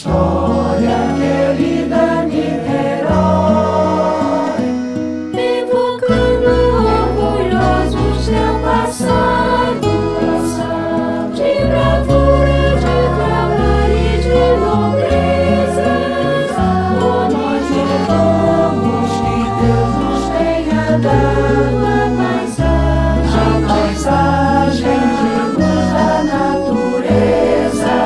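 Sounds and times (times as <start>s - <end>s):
mixed choir singing a hymn: 0.0s - 28.0s.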